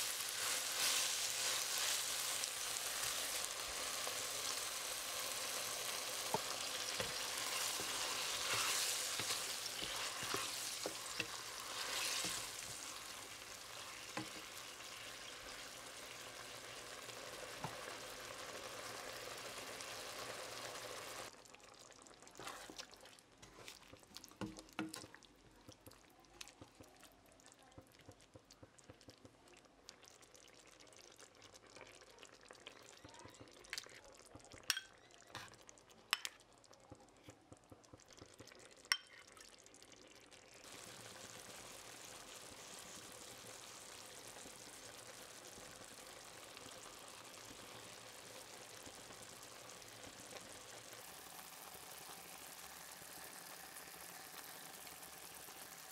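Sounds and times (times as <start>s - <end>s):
eggs sizzling in sauce: 0.0s - 55.9s
sauce simmering in a pan: 0.0s - 55.9s.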